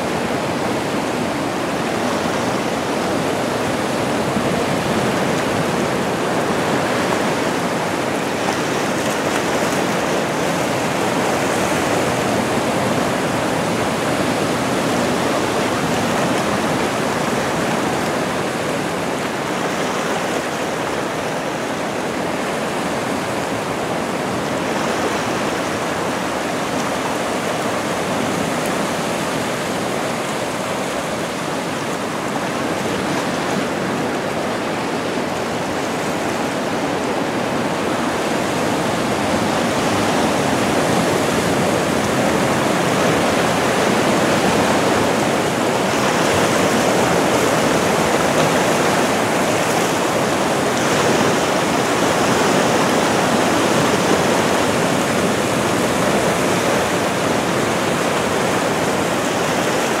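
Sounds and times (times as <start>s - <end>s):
ocean surf washing in: 0.0s - 60.0s
seawater rushing over rocks: 0.0s - 60.0s.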